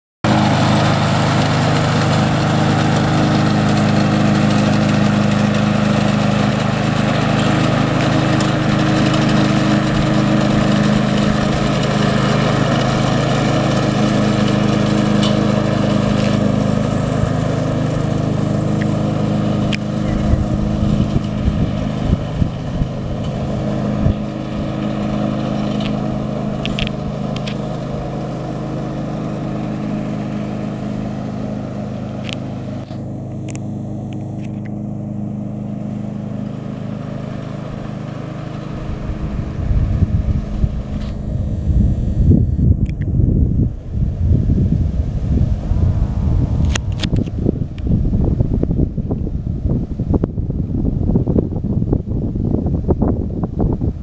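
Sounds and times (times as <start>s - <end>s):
ride-on lawn mower engine: 0.2s - 54.0s.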